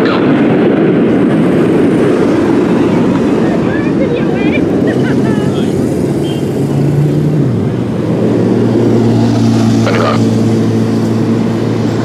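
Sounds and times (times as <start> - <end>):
motor engine droning: 0.3 - 12.0.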